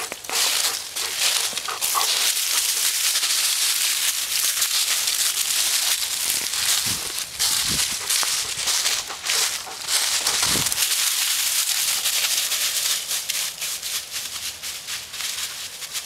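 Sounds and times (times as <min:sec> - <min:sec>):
dry leaves crunching underfoot: 0:00.0 - 0:16.0.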